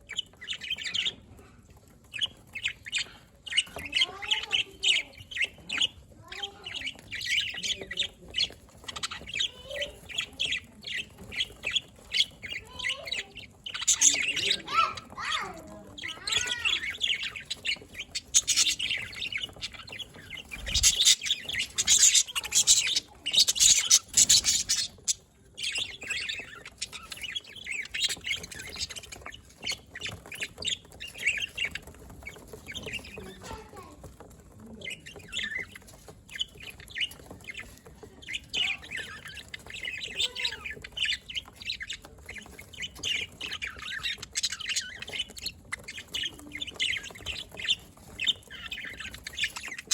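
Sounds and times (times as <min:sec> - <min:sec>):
budgerigars chirping and warbling: 0:00.0 - 0:49.9.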